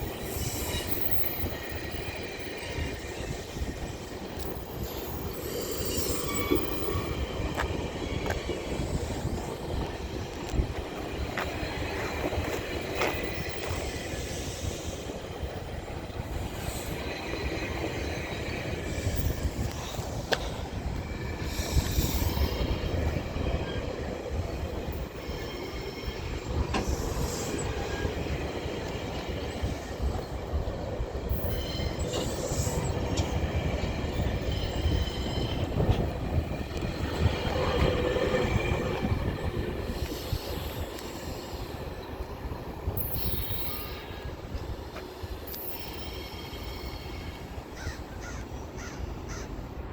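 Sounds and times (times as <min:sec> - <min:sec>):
train rumbling: 0:00.0 - 0:49.9
train wheels squealing on rails: 0:00.0 - 0:49.9.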